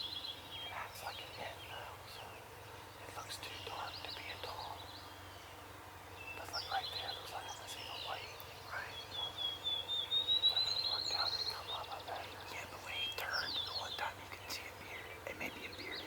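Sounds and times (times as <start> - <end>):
songbirds chorus: 0.0 - 16.0.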